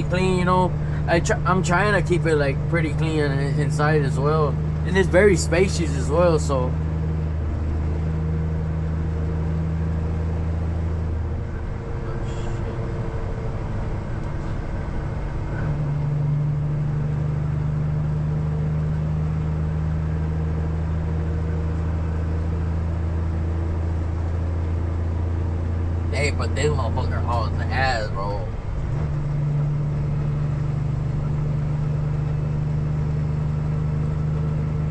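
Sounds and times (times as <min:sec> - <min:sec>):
diesel truck engine drone: 0:00.0 - 0:34.9.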